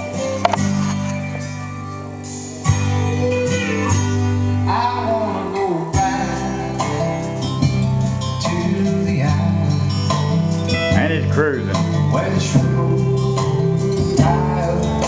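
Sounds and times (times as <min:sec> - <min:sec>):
country music with plucked guitar: 0:00.0 - 0:15.0.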